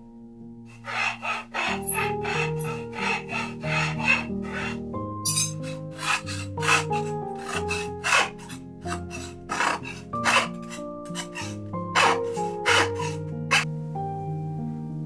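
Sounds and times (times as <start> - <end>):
soft piano music: 0.0 - 15.0
rasping strokes: 0.7 - 13.7.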